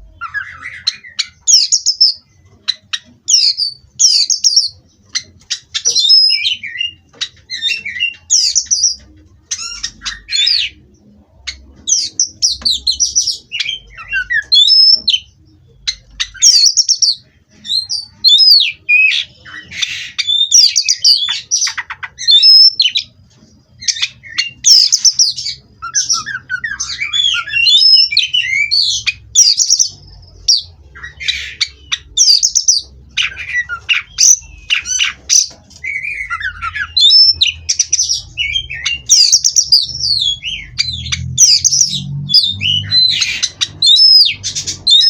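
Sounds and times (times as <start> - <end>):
songbird singing varied song: 0.0 - 45.0.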